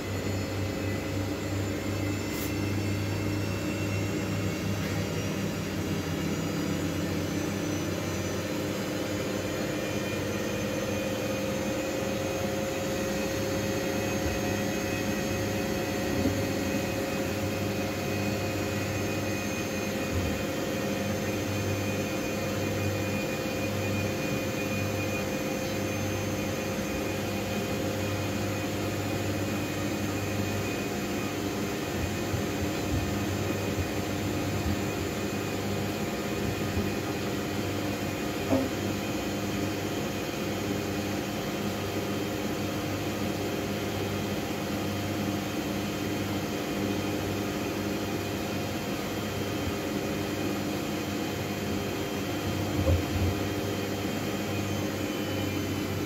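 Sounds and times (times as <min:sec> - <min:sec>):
washing machine motor whine: 0:00.0 - 0:56.0.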